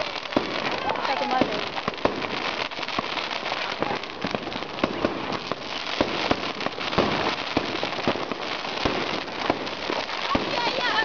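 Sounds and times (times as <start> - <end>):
firecracker bangs: 0.0 - 11.0
fireworks crackling: 0.0 - 11.0.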